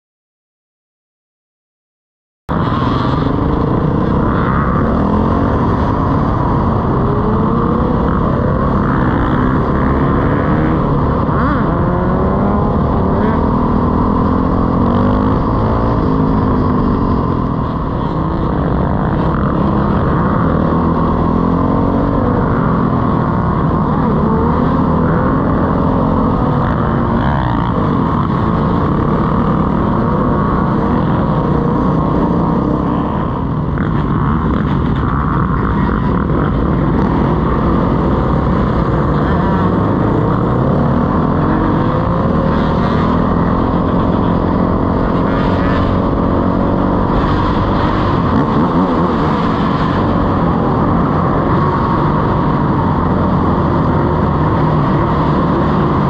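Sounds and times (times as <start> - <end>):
dirt bike engine revving: 2.5 - 56.0
other motorcycle engines: 2.5 - 56.0.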